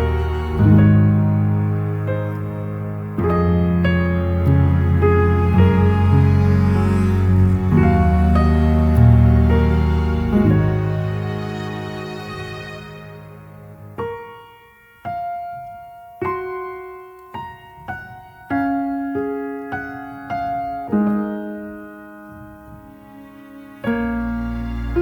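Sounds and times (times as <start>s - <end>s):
slow gentle piano melody: 0.0s - 25.0s.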